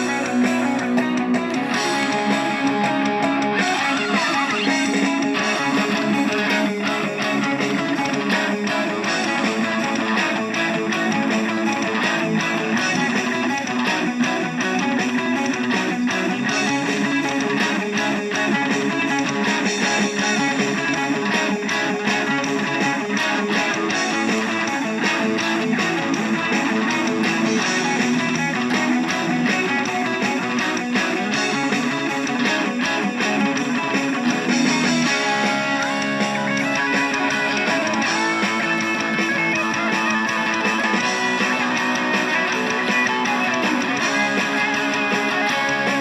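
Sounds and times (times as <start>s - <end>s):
bass guitar: 0.0s - 46.0s
strummed electric guitar: 0.0s - 46.0s.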